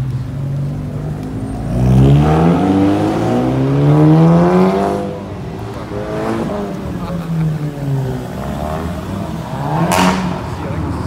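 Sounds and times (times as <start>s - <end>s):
car accelerating hard: 1.6s - 11.0s.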